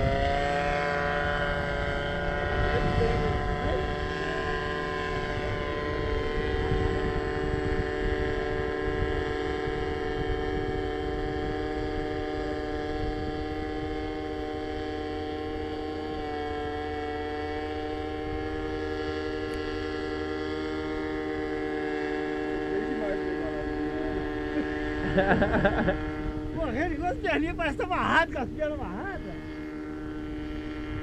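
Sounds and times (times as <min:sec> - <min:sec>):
paramotor engine drone: 0:00.0 - 0:31.0.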